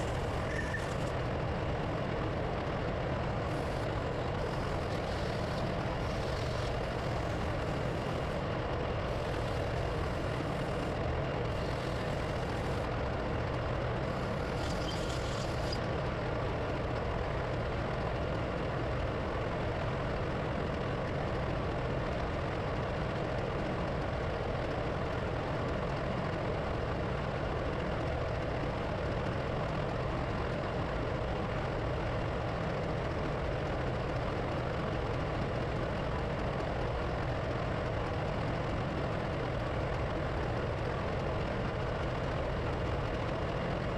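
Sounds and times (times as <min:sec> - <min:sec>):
diesel engines droning: 0:00.0 - 0:43.9.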